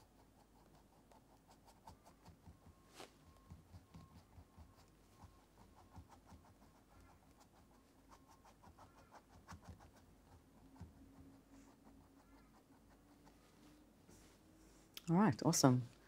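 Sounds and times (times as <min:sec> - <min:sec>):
paintbrush scratching on canvas: 0:00.0 - 0:14.4.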